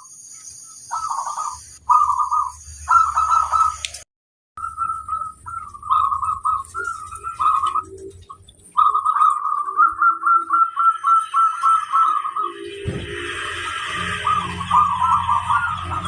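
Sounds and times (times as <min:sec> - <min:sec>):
dove cooing: 0:00.9 - 0:03.9, 0:04.6 - 0:16.0.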